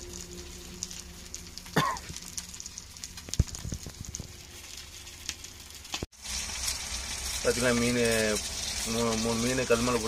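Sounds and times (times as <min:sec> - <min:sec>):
fish sizzling on griddle: 0:00.0 - 0:10.0.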